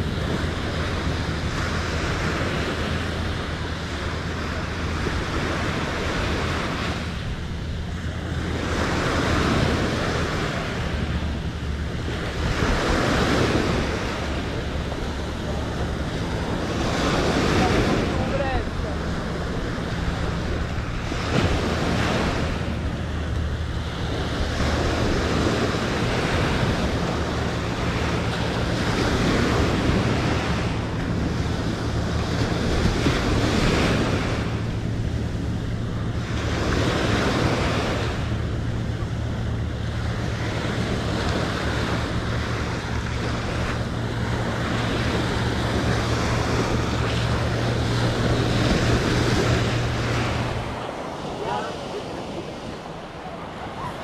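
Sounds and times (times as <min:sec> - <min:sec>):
ocean surf breaking: 0:00.0 - 0:54.0
steady low hum: 0:00.0 - 0:54.0
wind buffeting microphone: 0:00.0 - 0:54.0.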